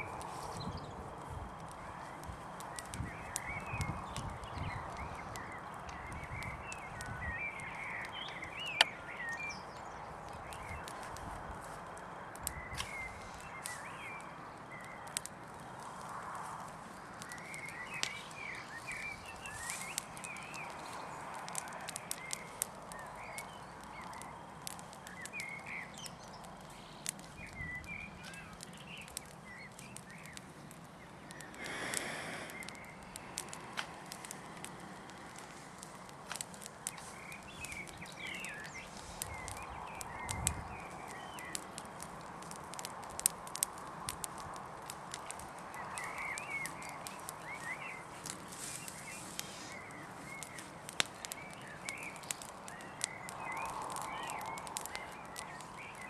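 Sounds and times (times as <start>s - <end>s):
birds chirping: 0.0s - 56.0s
fire crackling and popping: 0.0s - 56.0s.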